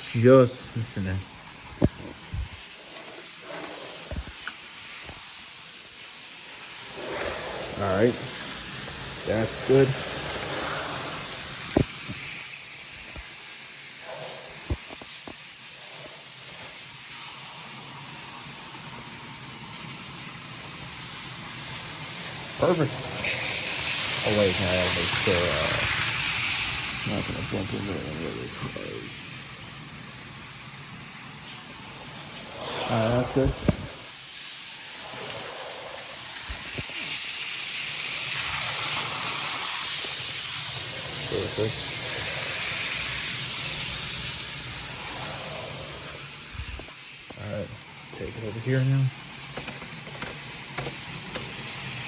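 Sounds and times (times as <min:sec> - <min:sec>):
model train wheels on rails: 0:00.0 - 0:52.0.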